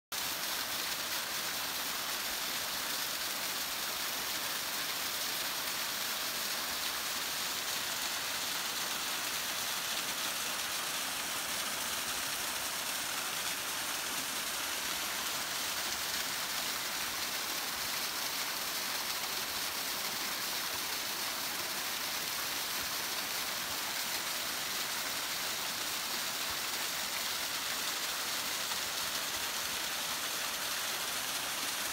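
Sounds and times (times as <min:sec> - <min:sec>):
small waterfall splashing: 0:00.1 - 0:31.9.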